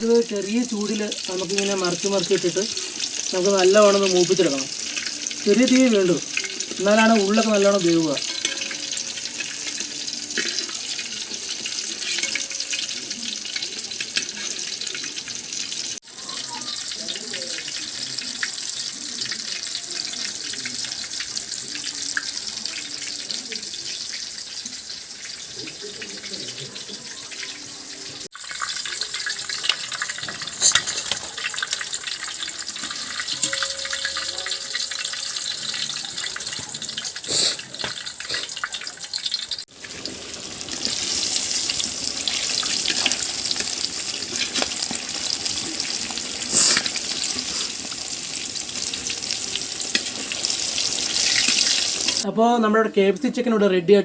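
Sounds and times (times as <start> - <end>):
deep-frying sizzle with pops: 0.0 - 52.3.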